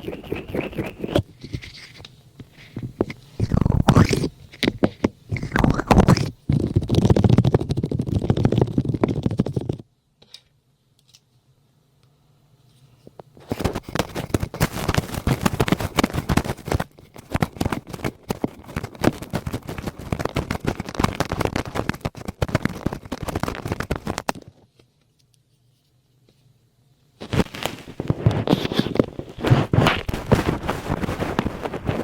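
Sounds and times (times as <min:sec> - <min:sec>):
scratching on a microphone: 0:00.0 - 0:09.8, 0:13.1 - 0:24.6, 0:27.2 - 0:32.0.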